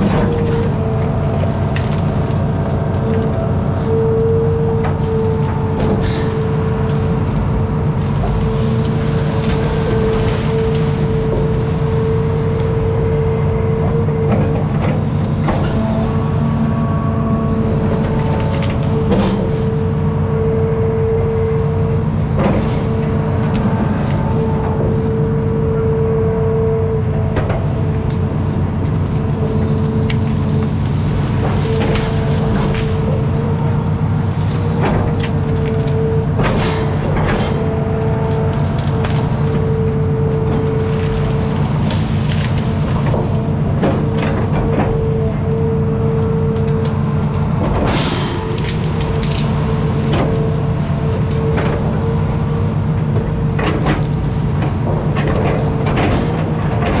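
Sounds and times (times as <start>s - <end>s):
excavator diesel engine: 0.0s - 57.0s
hydraulic whine: 0.0s - 57.0s.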